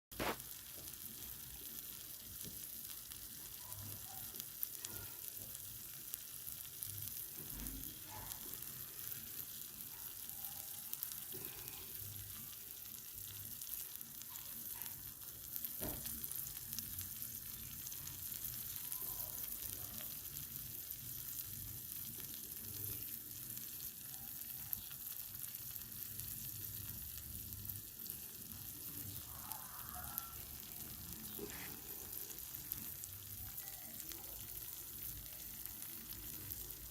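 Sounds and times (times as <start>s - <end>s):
cheese sizzling: 0.1s - 36.9s.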